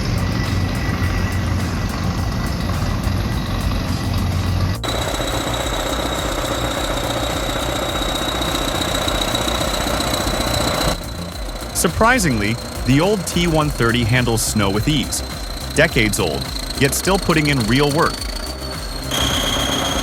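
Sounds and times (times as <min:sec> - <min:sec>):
diesel engines running: 0:00.0 - 0:20.0
machine high whine: 0:00.0 - 0:20.0.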